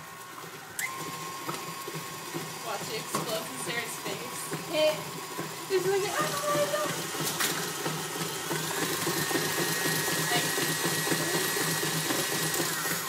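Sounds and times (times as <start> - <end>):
stand mixer motor whining: 0.0 - 13.0.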